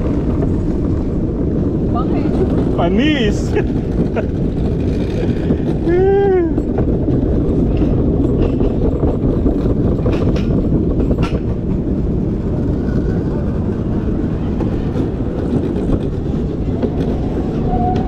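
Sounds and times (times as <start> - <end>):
wheels rumbling on concrete: 0.0 - 18.0.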